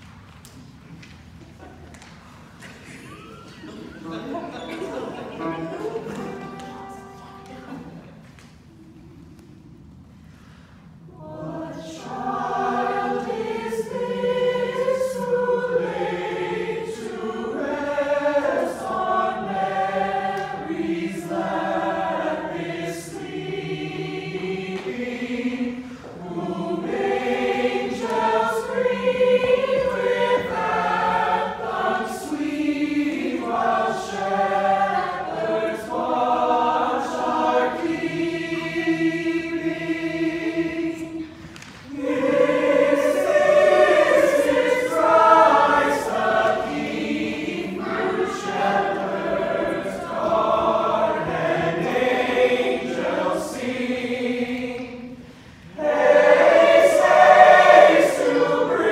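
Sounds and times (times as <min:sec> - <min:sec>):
mixed choir singing in harmony: 0:03.4 - 0:08.0, 0:10.8 - 0:58.9.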